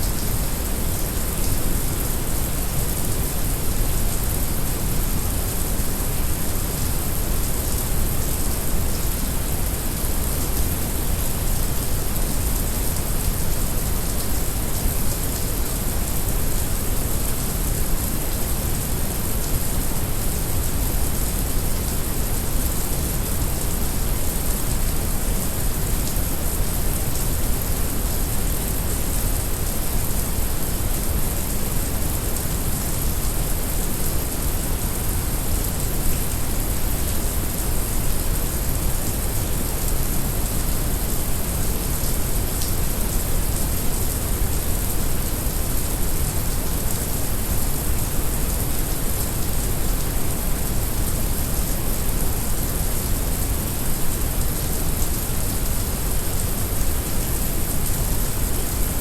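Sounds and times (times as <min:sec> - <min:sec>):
heavy rain: 0:05.7 - 0:59.0.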